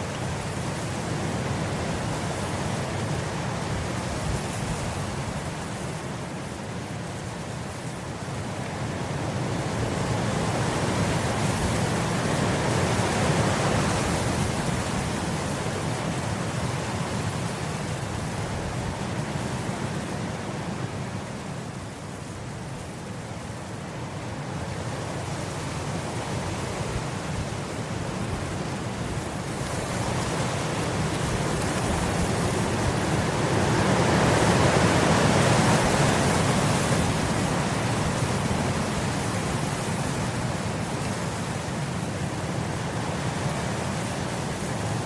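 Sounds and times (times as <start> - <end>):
wind blowing through grass: 0.0 - 45.0.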